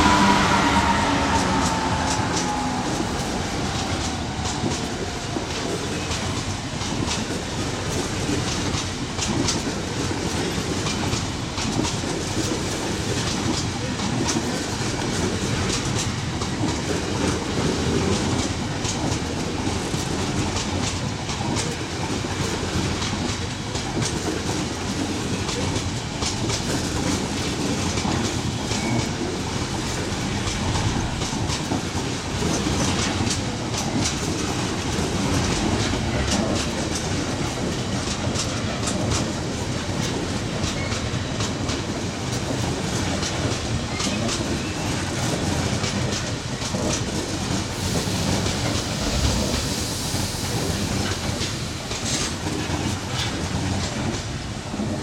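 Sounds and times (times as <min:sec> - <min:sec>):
freight train rolling past: 0:00.0 - 0:55.0
wheels clattering on track: 0:00.0 - 0:55.0.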